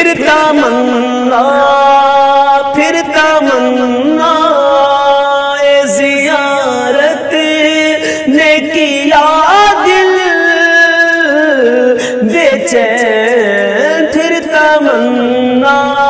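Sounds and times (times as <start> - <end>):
man singing devotional poem: 0.0 - 16.0.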